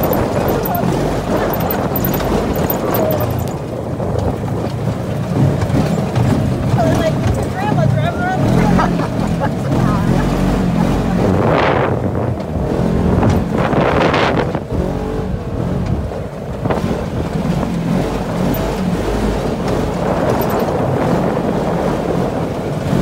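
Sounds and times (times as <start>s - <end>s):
atv engine running: 0.0s - 23.0s
wind noise on microphone: 0.0s - 23.0s.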